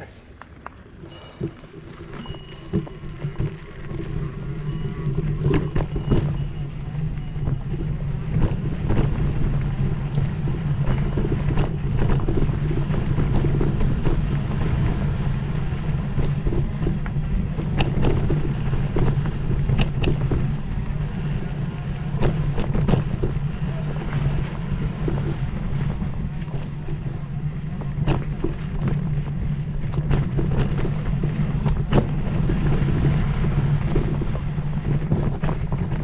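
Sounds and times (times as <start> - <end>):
bike rattling over rough ground: 0.0 - 36.0
bike tyres rumbling: 0.0 - 36.0
wind rushing over microphone: 1.3 - 36.0.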